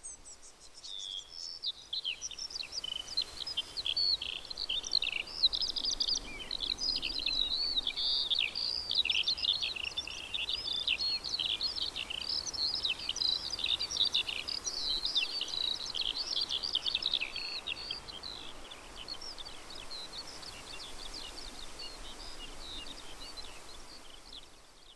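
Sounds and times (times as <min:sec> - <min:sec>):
songbirds chirping: 0:00.0 - 0:24.9.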